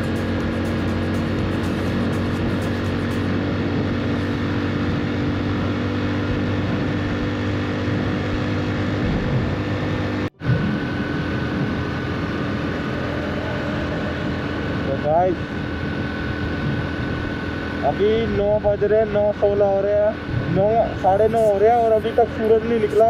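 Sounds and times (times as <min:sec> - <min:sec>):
wind noise: 0:00.0 - 0:17.8, 0:20.1 - 0:23.0
motorcycle engine cruising: 0:00.0 - 0:23.0
road noise: 0:00.0 - 0:23.0.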